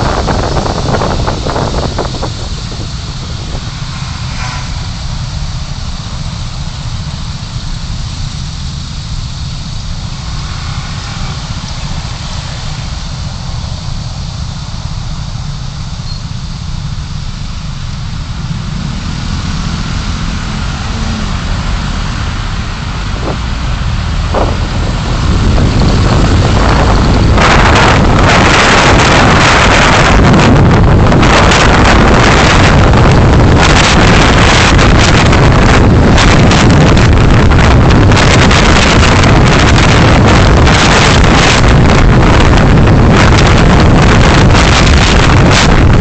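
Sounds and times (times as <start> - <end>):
car engine and road rumble: 0.0 - 46.0
tyre and wind hiss: 0.0 - 46.0.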